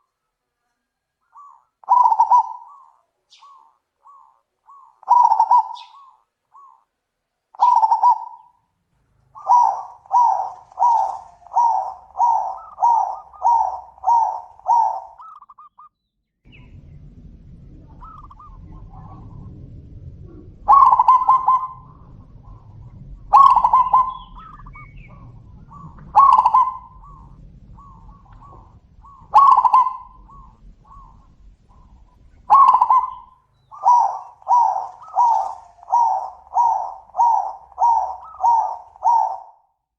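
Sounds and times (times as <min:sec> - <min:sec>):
doves cooing: 0:00.0 - 0:06.9, 0:07.6 - 0:08.6, 0:09.2 - 0:15.8, 0:16.5 - 0:39.6
faint low rumble: 0:00.0 - 0:39.6.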